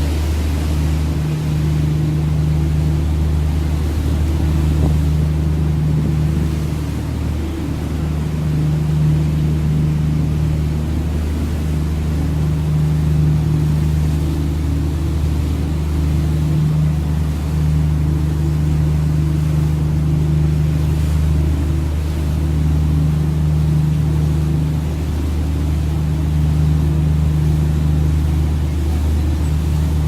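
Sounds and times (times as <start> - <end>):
boat engine droning: 0.0 - 30.0
hiss of water and air: 0.0 - 30.0.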